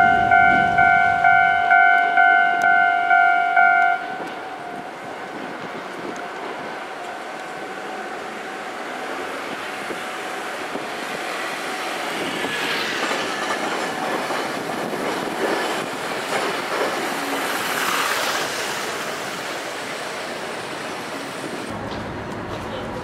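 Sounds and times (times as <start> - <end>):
passing road traffic: 0.0 - 23.0
streetcar wheels clattering on rails: 3.8 - 23.0.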